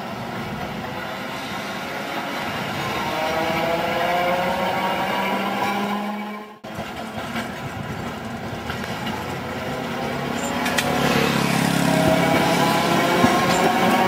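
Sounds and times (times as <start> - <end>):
electric tram rumble and hum: 0.0 - 14.0.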